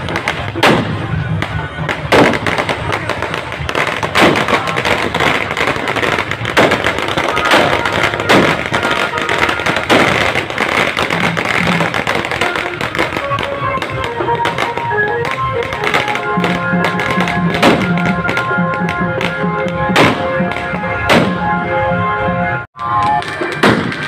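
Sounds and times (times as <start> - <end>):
fountain fireworks hissing and crackling: 0.0 - 21.3, 22.8 - 24.0
firecracker bangs: 0.0 - 21.6, 22.8 - 24.0
melodic music: 1.1 - 24.0.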